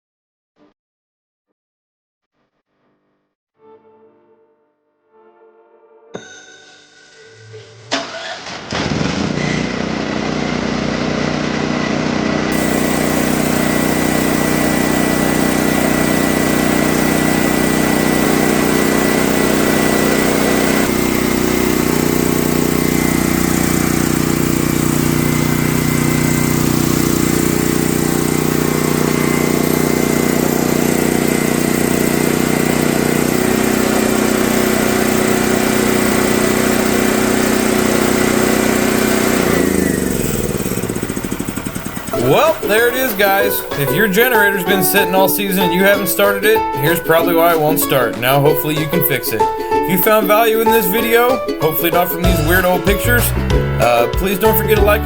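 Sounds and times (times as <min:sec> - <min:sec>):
generator engine running: 0:09.4 - 0:55.0.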